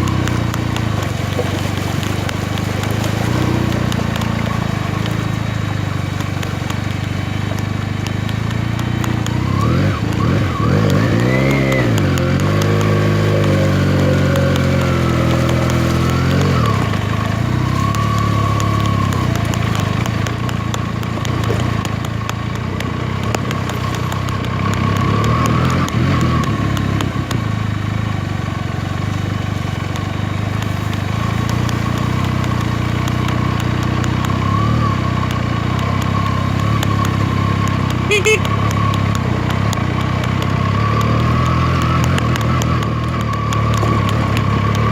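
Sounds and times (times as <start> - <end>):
motorcycle engine revving: 0.0 - 44.9
road noise: 0.0 - 44.9.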